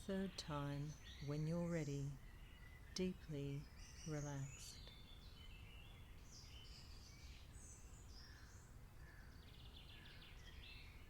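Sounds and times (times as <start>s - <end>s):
bird chirps and calls: 0.0s - 11.0s.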